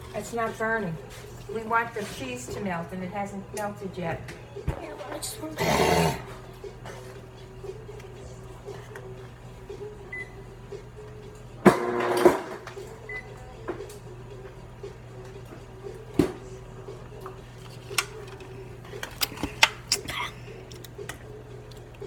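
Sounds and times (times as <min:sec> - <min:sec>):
kitchen appliance humming: 0:02.6 - 0:22.0.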